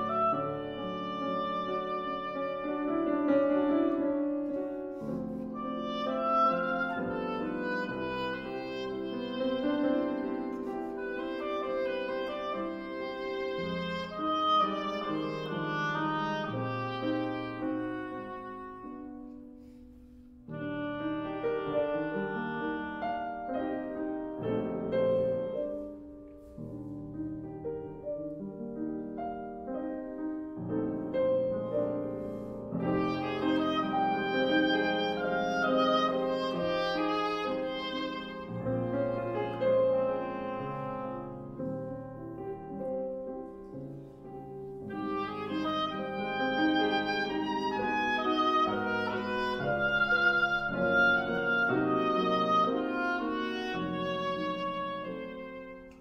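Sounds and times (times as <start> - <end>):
oboe melody: 0.0 - 19.8, 20.4 - 56.0
piano accompaniment: 0.0 - 56.0.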